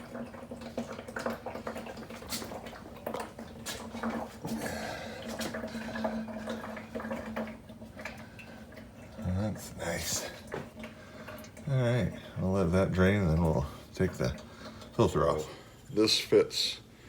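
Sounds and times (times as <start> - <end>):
oil trickling into a pan: 0.0 - 15.8.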